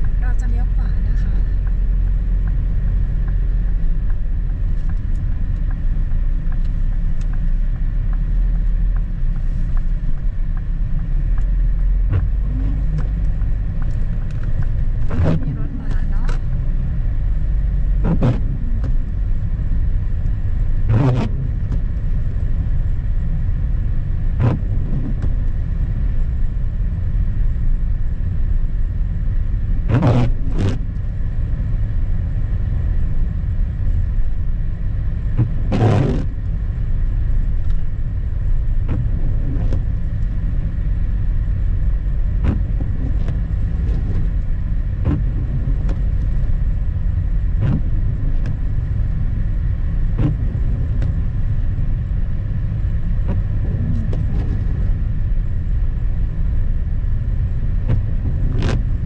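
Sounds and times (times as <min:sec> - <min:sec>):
car driving on snow: 0:00.0 - 0:59.0.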